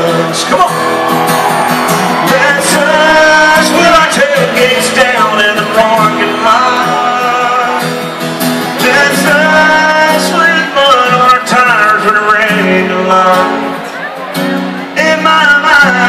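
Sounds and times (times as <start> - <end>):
live country band playing: 0.0 - 16.0.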